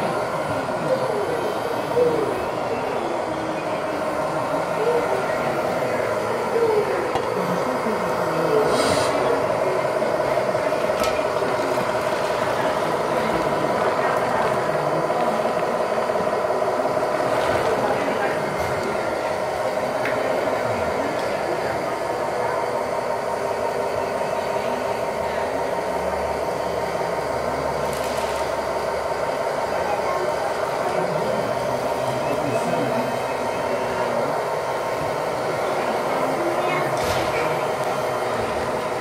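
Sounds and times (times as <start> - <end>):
background voices chattering: 0.0 - 39.0.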